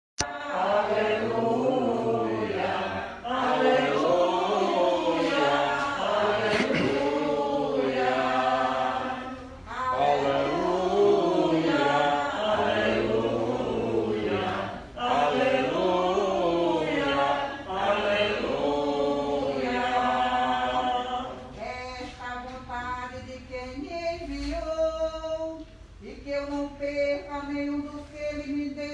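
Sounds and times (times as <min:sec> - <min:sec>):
congregation singing a hymn: 0:00.2 - 0:24.5.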